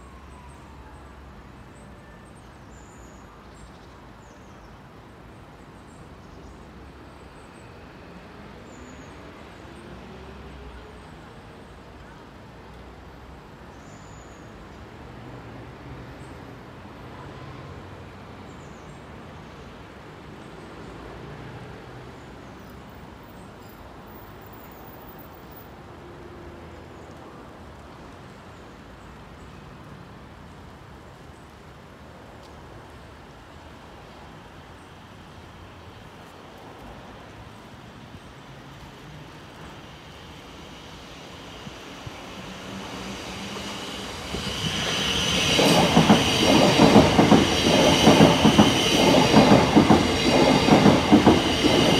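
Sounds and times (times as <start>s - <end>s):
traffic noise: 0.0s - 51.9s.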